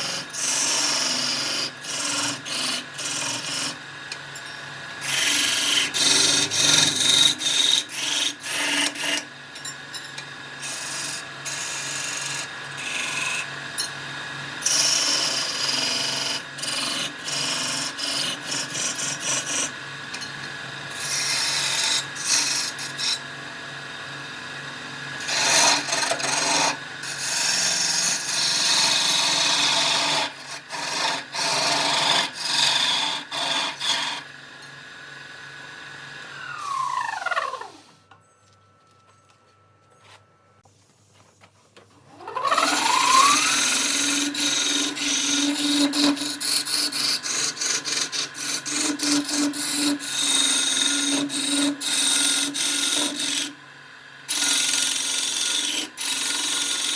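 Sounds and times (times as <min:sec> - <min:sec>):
lathe tool scraping spinning wood: 0:00.0 - 0:09.6, 0:10.2 - 0:23.3, 0:25.2 - 0:34.6, 0:36.2 - 0:38.0, 0:42.1 - 0:53.6, 0:54.3 - 0:56.9.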